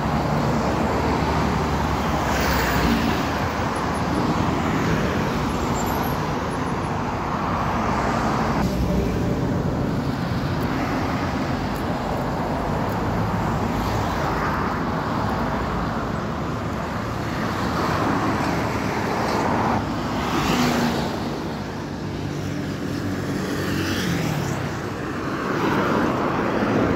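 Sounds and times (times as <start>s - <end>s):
cars passing close by: 0.0s - 26.9s
highway traffic: 0.0s - 26.9s.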